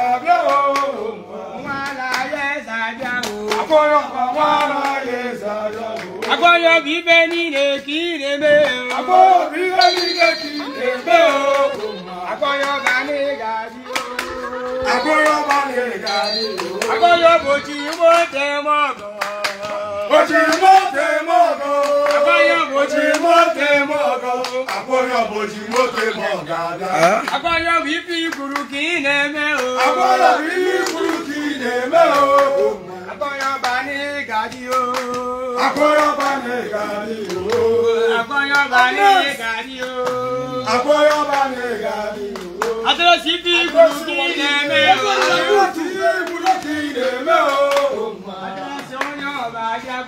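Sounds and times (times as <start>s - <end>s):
people singing together: 0.0s - 50.0s
hand claps: 0.4s - 1.0s, 1.7s - 7.8s, 8.4s - 13.2s, 13.9s - 23.4s, 24.3s - 26.2s, 28.2s - 37.7s, 38.3s - 43.0s, 43.6s - 48.0s, 48.6s - 49.4s.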